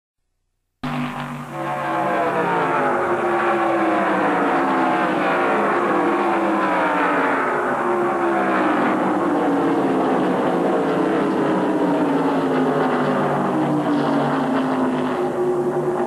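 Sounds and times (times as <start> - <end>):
race car engines passing by: 0.8 - 16.0.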